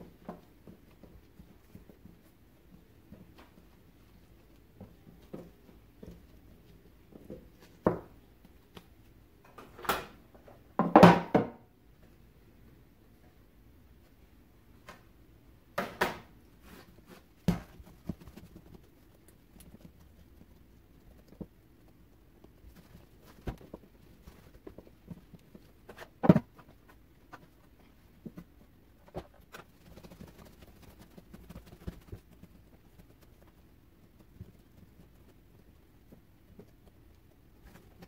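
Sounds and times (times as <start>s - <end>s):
hands patting and rubbing dough: 0.0s - 9.3s, 15.8s - 38.0s.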